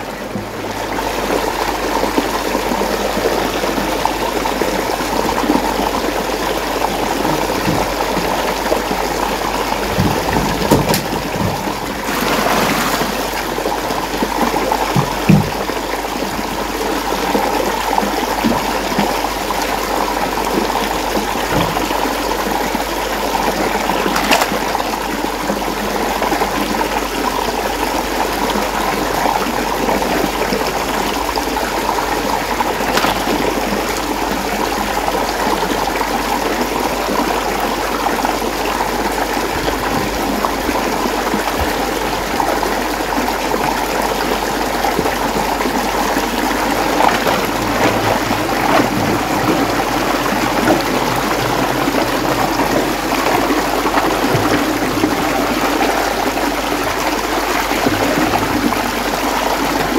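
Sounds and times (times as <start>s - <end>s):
water swirling in whirlpool: 0.0s - 59.9s.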